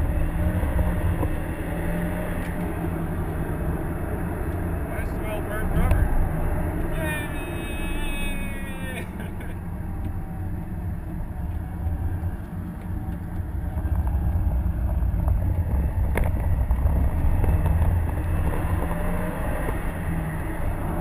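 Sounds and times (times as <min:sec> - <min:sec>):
car engine in cabin: 0:00.0 - 0:21.0
tyre and road noise: 0:00.0 - 0:21.0.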